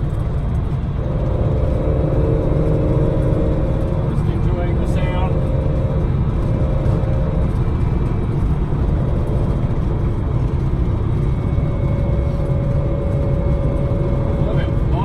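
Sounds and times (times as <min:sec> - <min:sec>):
car engine running: 0:00.0 - 0:15.0
road and wind noise: 0:00.0 - 0:15.0.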